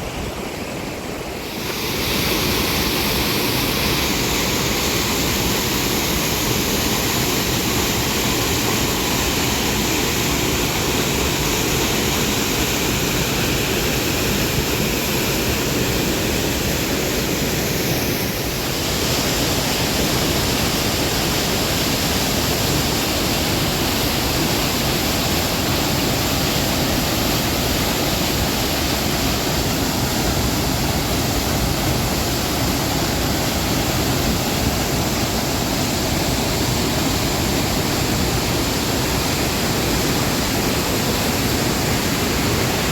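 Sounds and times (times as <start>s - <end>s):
cascading water roar: 0.0s - 42.9s.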